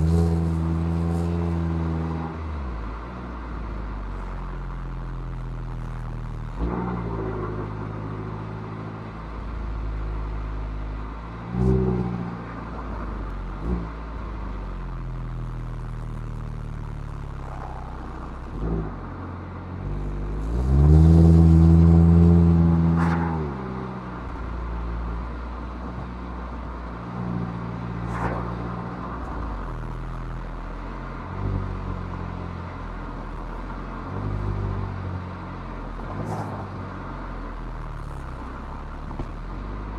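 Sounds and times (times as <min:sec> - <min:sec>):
car engine pulling uphill: 0:00.0 - 0:39.9.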